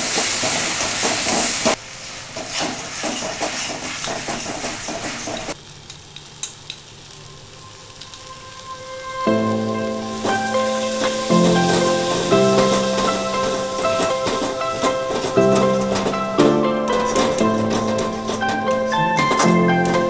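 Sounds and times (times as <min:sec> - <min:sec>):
onions sizzling in hot oil: 0:00.0 - 0:16.9.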